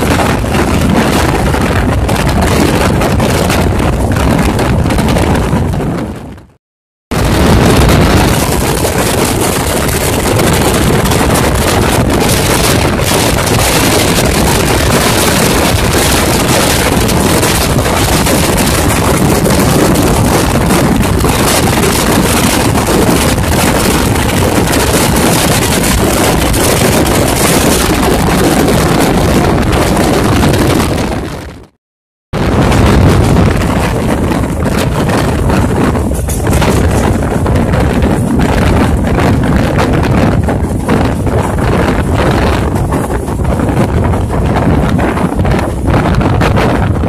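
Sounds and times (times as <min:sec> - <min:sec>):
rush of wind: 0:00.0 - 0:47.0
wind buffeting microphone: 0:00.0 - 0:47.0
train wheels on rails: 0:07.2 - 0:31.3, 0:32.5 - 0:47.0.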